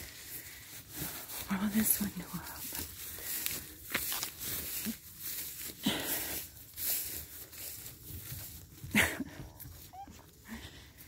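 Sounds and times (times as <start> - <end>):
footsteps through tall grass: 0.0 - 11.0.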